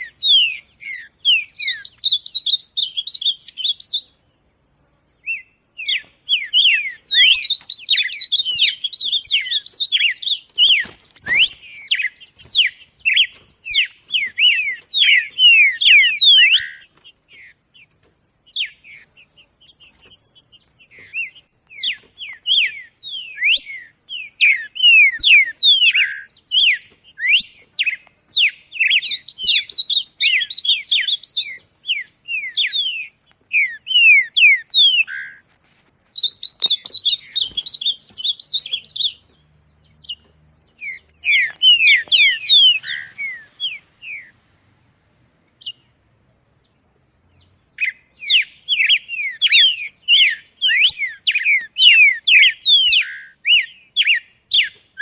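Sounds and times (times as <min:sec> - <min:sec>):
songbird whistling song: 0:00.0 - 0:44.4, 0:45.4 - 0:55.0.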